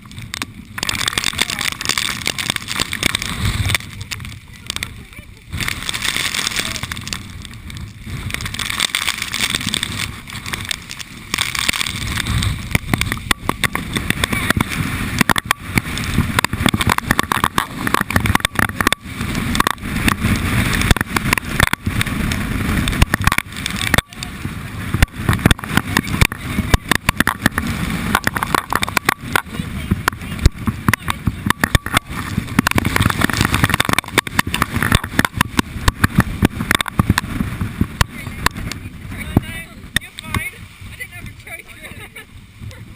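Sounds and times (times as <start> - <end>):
crackling ticks and knocks: 0.0 - 40.5
storm wind roaring: 0.0 - 42.9.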